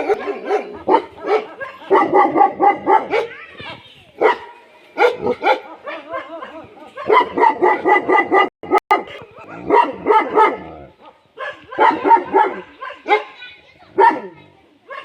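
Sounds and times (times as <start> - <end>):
dogs barking: 0.0 - 3.4, 4.2 - 15.0.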